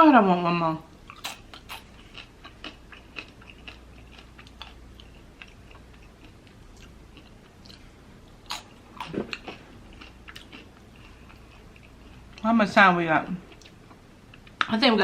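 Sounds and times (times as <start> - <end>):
food crunching: 1.0 - 12.5, 13.5 - 14.7
wet chewing sounds: 1.1 - 12.5, 13.5 - 14.7.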